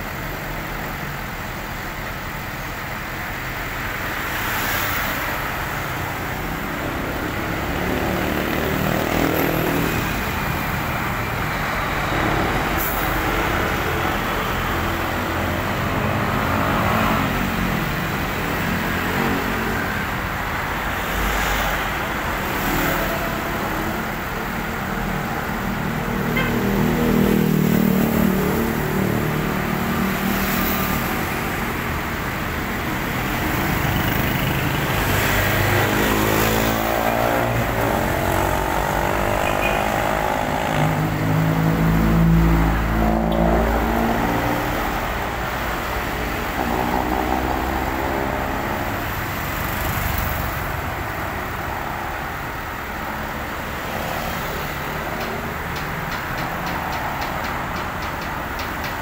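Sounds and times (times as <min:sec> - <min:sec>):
car engines passing: 0:00.0 - 0:59.0.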